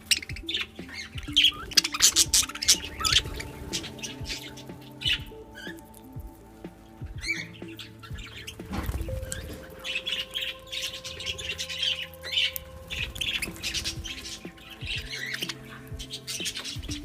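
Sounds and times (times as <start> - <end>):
budgerigars chirping and squawking: 0.0 - 5.8, 7.1 - 17.0.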